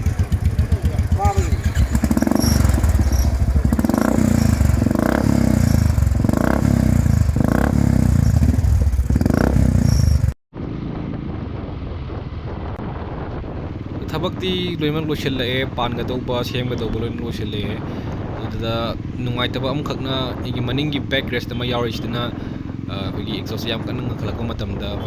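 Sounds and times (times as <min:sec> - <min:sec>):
motorcycle engine revving: 0:00.0 - 0:14.2, 0:17.6 - 0:25.0.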